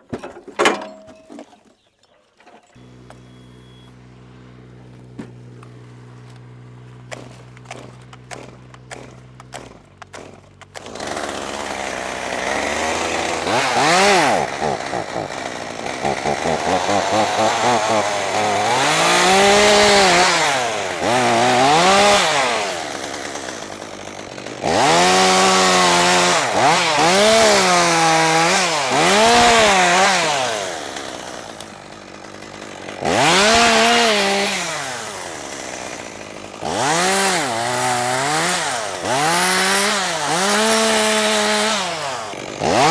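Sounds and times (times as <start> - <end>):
chainsaw revving: 2.8 - 42.9.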